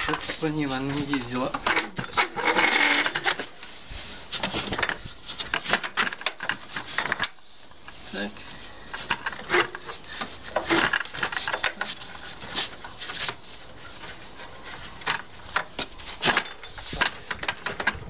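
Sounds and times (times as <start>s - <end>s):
knocks and scraping of wood and metal: 0.0s - 18.0s.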